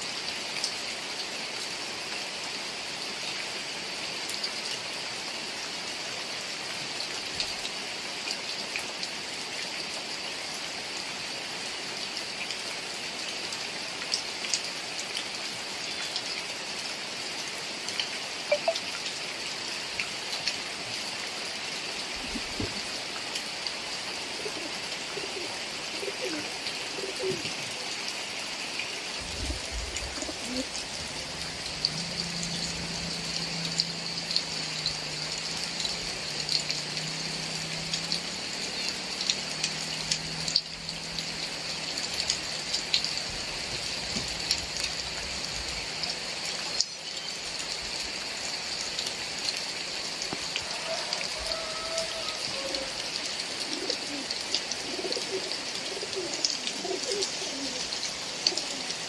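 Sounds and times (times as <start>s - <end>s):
heavy rain: 0.0s - 59.0s
raindrops hitting surfaces: 0.0s - 59.0s.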